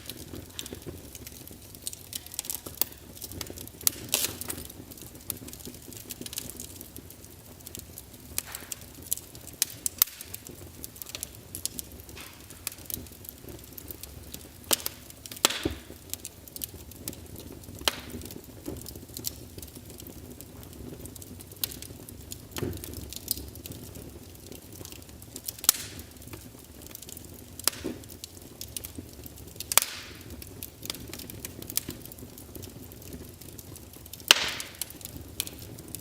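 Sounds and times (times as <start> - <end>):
flames hissing and rumbling: 0.0 - 36.0
wood fire crackling and snapping: 0.0 - 36.0.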